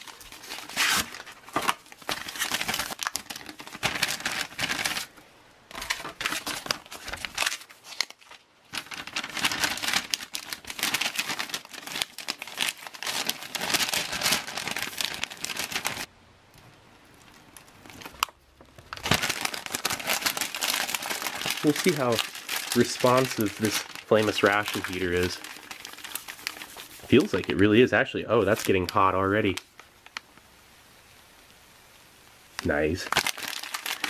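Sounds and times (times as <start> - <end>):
packaging crinkling and rustling: 0.0 - 30.4, 32.6 - 34.0.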